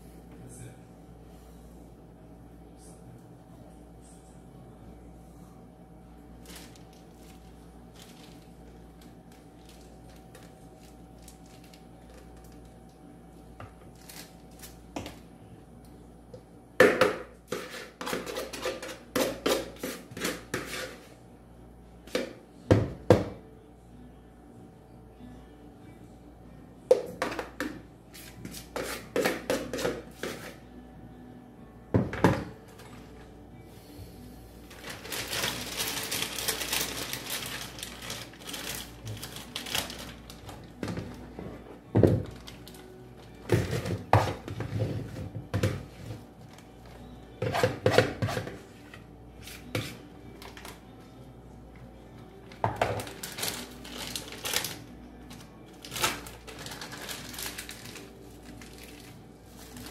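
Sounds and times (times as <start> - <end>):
faint background music: 0.0 - 59.9.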